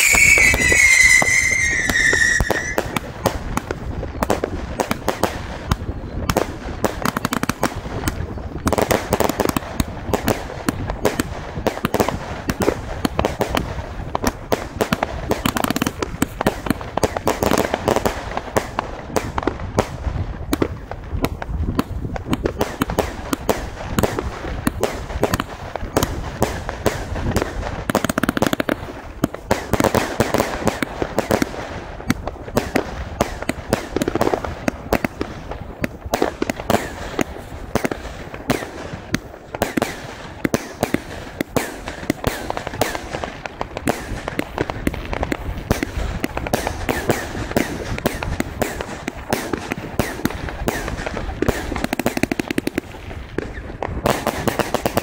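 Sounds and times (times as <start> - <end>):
firework bursts: 0.0 - 55.0
firework cake firing shots: 0.0 - 55.0.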